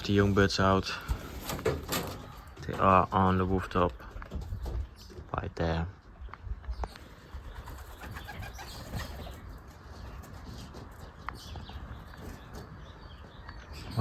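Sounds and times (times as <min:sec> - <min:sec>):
pigeons calling softly: 0:00.0 - 0:14.0.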